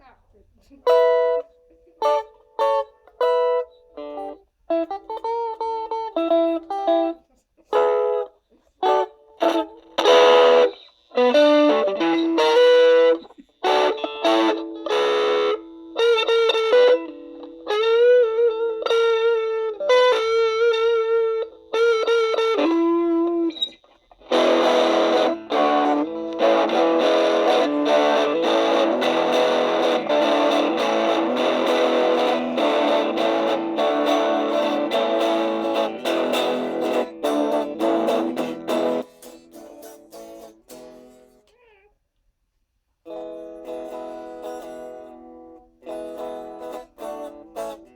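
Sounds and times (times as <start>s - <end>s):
distorted electric guitar: 0.8s - 41.6s, 43.1s - 47.9s.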